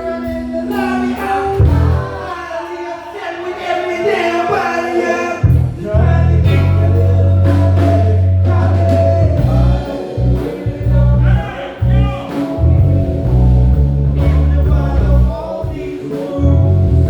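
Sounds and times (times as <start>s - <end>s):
electric bass: 0.0s - 2.2s, 5.4s - 17.0s
drums: 0.0s - 2.8s, 5.3s - 17.0s
person singing: 0.0s - 17.0s.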